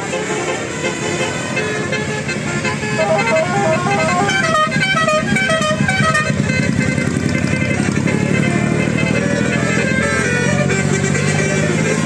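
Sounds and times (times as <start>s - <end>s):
bus engine running: 0.0s - 12.0s
musical horn playing a tune: 0.0s - 12.0s.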